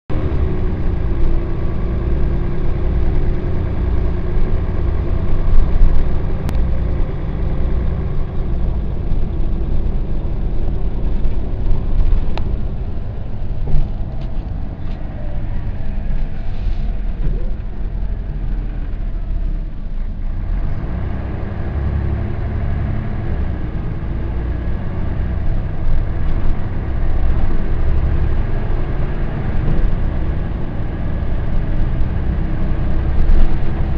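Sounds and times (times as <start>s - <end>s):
bus diesel engine running: 0.1s - 33.9s.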